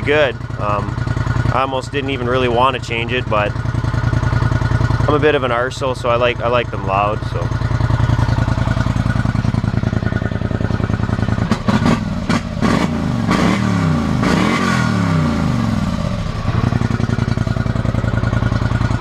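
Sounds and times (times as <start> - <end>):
engine idling and revving: 0.0 - 19.0.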